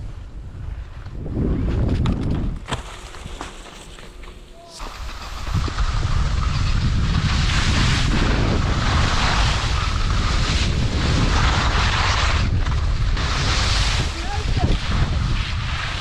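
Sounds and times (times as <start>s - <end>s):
wind buffeting microphone: 0.0s - 2.7s, 4.8s - 16.0s.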